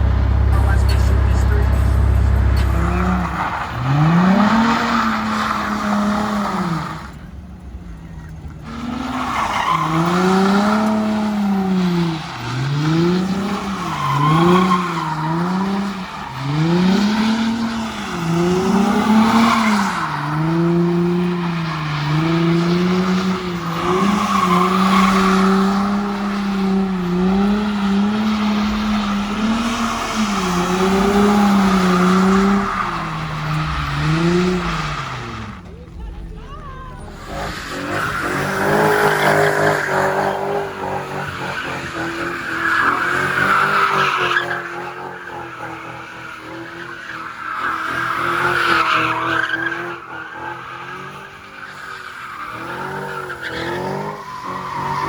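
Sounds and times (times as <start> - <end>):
car engine revving: 0.0 - 55.0
tyres squealing: 0.0 - 55.0.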